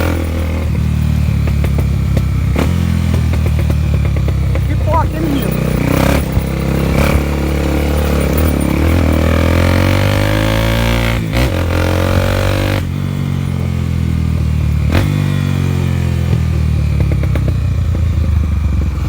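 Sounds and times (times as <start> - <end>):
exhaust pops and crackles: 0.0 - 15.5
motorcycle engine revving: 0.0 - 19.0.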